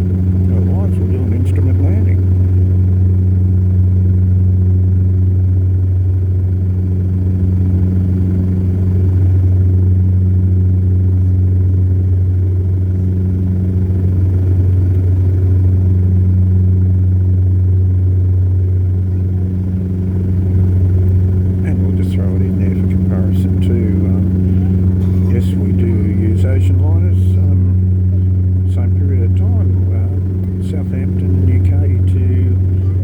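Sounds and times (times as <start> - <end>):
propeller hum: 0.0 - 33.0
turboprop engines droning: 0.0 - 33.0.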